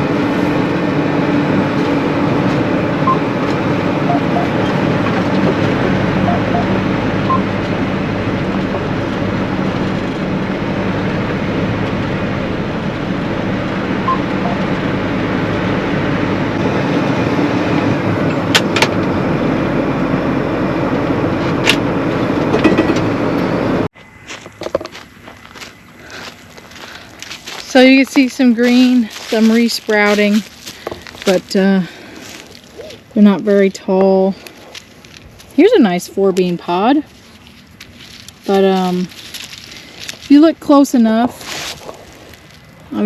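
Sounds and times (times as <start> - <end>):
combine harvester drone: 0.0 - 43.0.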